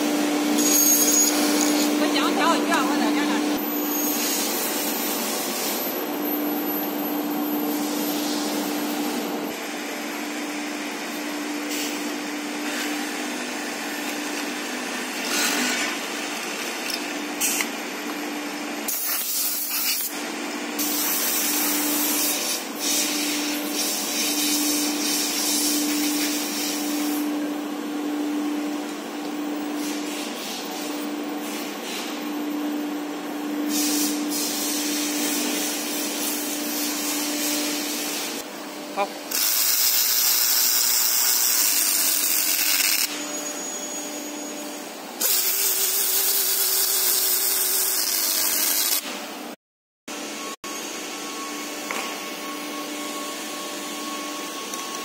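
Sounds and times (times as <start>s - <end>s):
machinery whirring hum: 0.0s - 19.0s, 20.2s - 45.4s, 49.2s - 55.0s.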